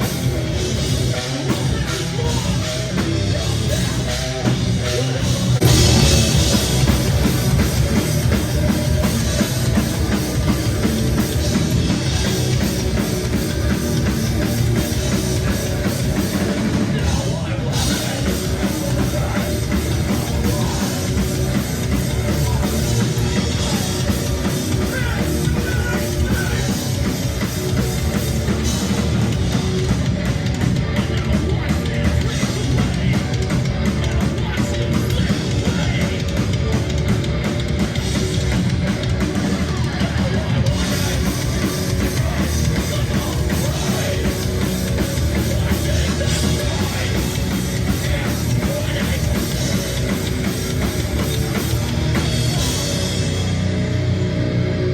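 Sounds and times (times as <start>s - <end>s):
heavy rock band playing live: 0.0s - 54.9s.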